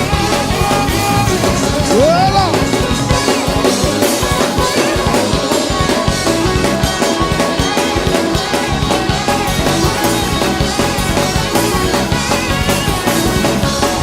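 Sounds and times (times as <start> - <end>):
fast gospel band music: 0.0 - 14.0
rapid drum kit strokes: 0.0 - 14.0.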